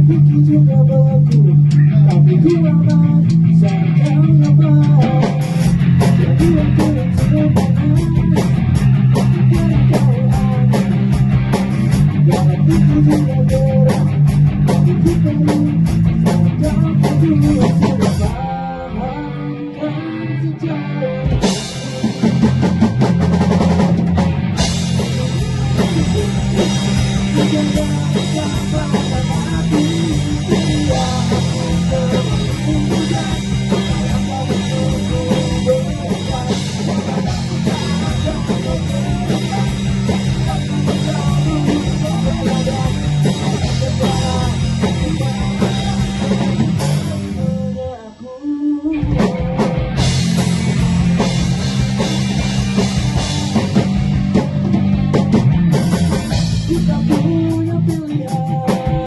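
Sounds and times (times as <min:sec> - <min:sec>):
rock band playing: 0:00.0 - 0:47.9, 0:48.9 - 0:59.0.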